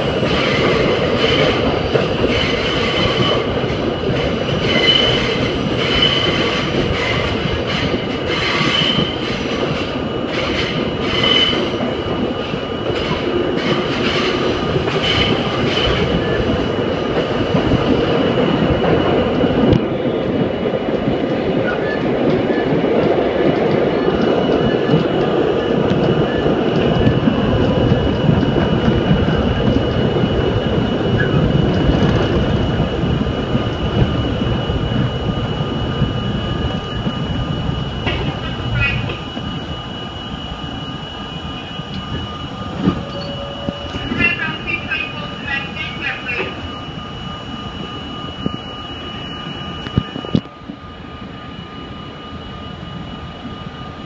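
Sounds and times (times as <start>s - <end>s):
subway train wheels rumbling: 0.0s - 54.0s.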